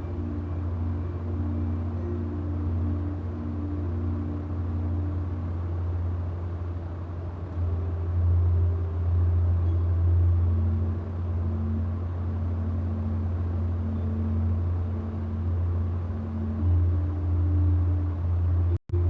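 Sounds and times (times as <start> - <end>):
faint humming tones: 0.0 - 19.0.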